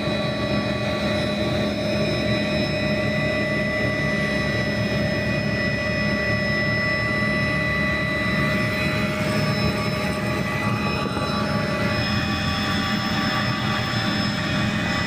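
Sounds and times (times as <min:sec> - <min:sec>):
helicopter engine and rotor: 0:00.0 - 0:15.0
high-pitched whine: 0:00.0 - 0:15.0.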